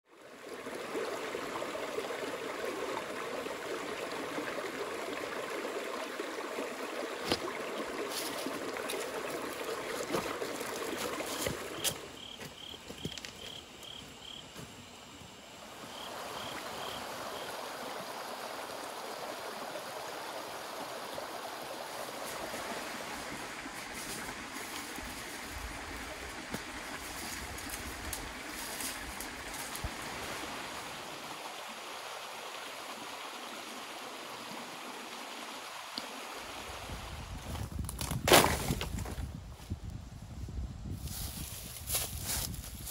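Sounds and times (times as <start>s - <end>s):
creek water over rocks: 0.0s - 39.4s.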